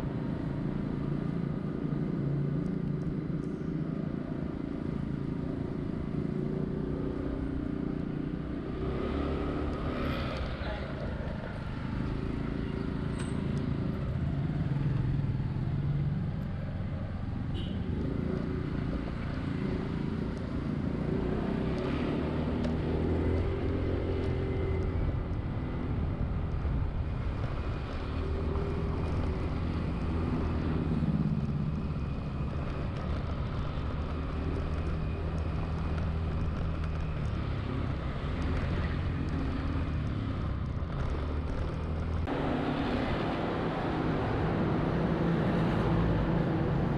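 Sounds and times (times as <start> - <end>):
road and traffic rumble: 0.0 - 46.9.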